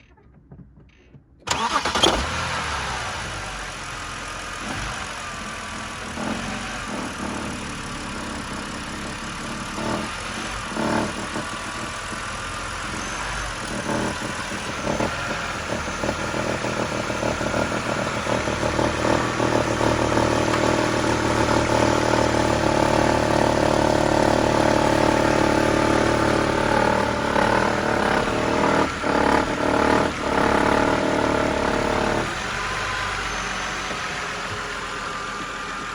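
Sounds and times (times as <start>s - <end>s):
engine clattering: 0.0s - 35.9s
petrol engine running: 1.5s - 35.9s.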